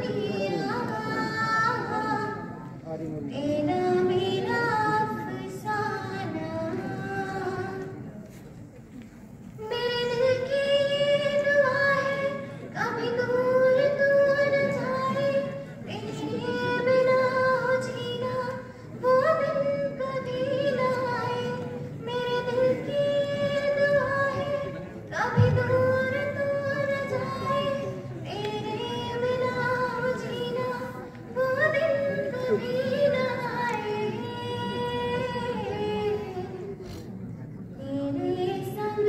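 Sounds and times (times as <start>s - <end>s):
girl singing into a microphone: 0.0s - 8.4s, 9.6s - 36.8s, 37.6s - 39.0s.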